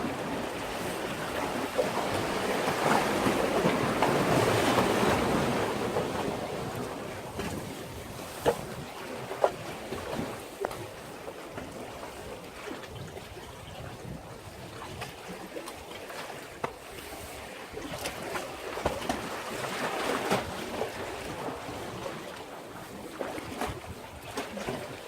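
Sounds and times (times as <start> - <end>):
sea waves washing on breakwater: 0.0 - 25.0.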